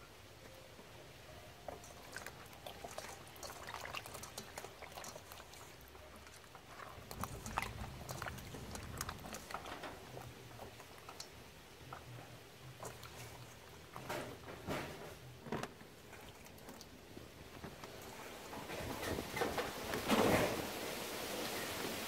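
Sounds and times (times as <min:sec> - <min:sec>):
water sloshing and splashing: 0:01.6 - 0:22.0
small wet clicks and knocks: 0:01.7 - 0:20.4.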